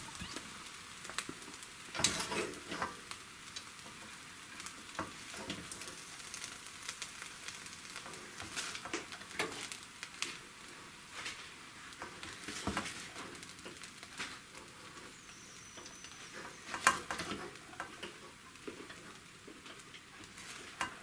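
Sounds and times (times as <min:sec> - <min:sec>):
faint sizzle: 0:00.0 - 0:21.0.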